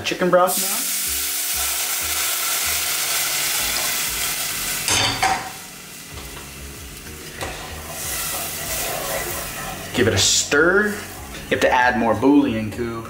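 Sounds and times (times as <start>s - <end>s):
broth sizzling in a pot: 0.0s - 11.6s.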